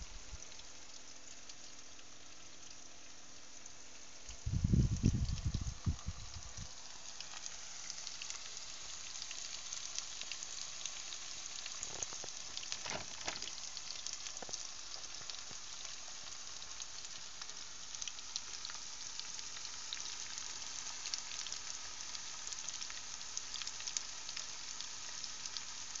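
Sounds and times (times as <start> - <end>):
mushrooms sizzling in oil: 0.0 - 26.0.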